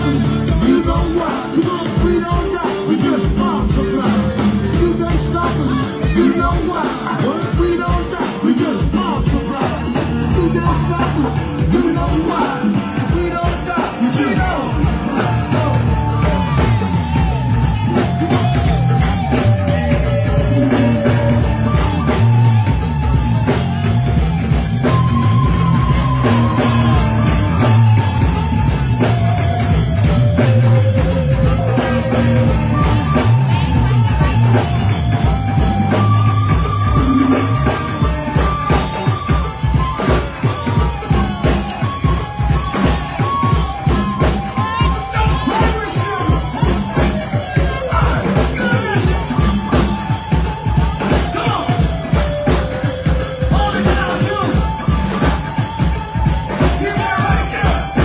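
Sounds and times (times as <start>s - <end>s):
live band playing loud: 0.0s - 58.0s.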